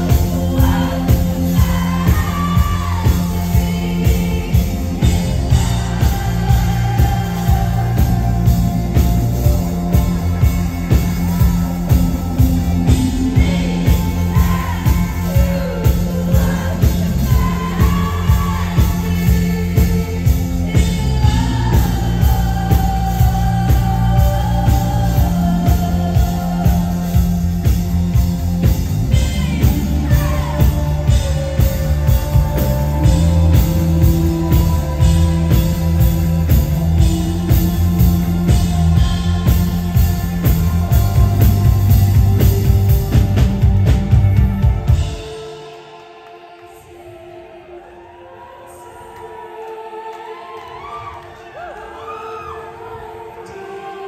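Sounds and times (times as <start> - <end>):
bass guitar: 0.0 - 45.5
steady drum beat: 0.0 - 45.5
electric guitars: 0.0 - 47.6
woman singing lead: 0.0 - 54.0.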